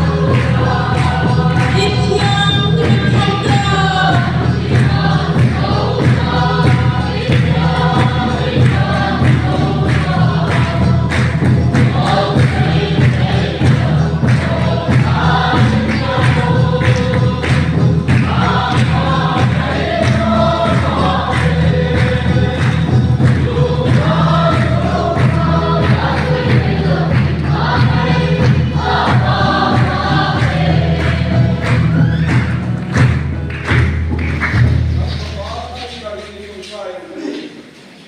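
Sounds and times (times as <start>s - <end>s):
group singing gospel song: 0.0s - 34.0s
accompaniment with steady beat: 0.0s - 38.0s.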